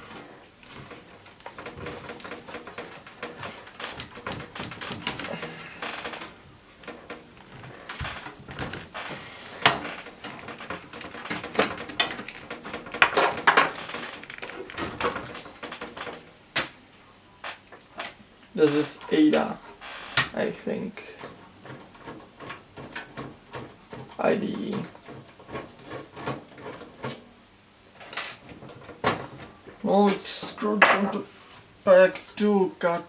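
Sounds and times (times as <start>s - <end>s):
cables and connectors rattling: 0.0s - 16.8s, 17.4s - 31.4s.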